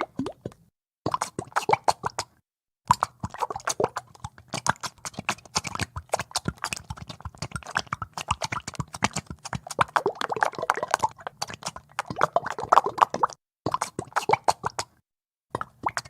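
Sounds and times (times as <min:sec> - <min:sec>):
bubbles plopping in liquid: 0:00.0 - 0:02.2, 0:02.9 - 0:14.9, 0:15.5 - 0:16.0.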